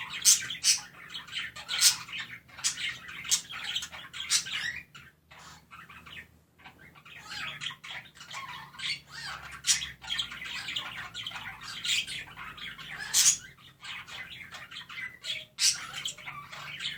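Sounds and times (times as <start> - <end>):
budgerigars chirping and warbling: 0.0 - 16.9.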